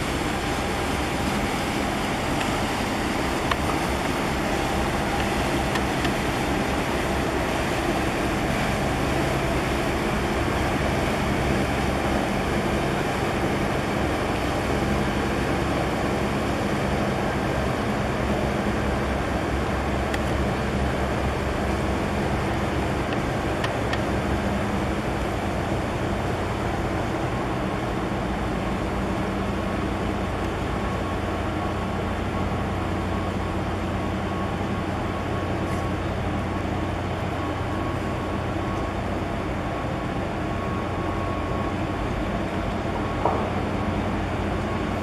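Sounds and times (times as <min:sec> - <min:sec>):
ship machinery droning: 0:00.0 - 0:45.0
water and air noise: 0:00.0 - 0:45.0.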